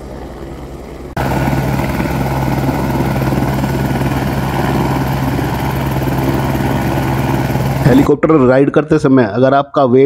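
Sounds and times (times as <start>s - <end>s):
helicopter rotor and turbine drone: 0.0s - 8.1s.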